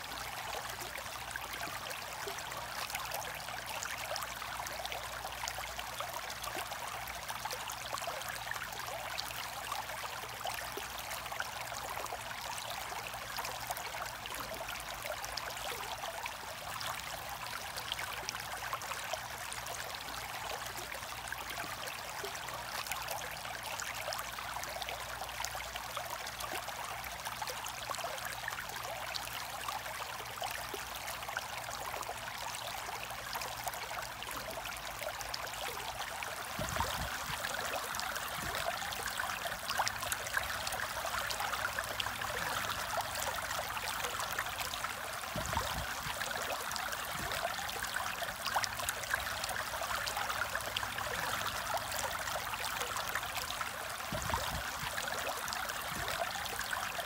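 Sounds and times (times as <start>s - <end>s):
aquarium water trickling: 0.0s - 57.0s.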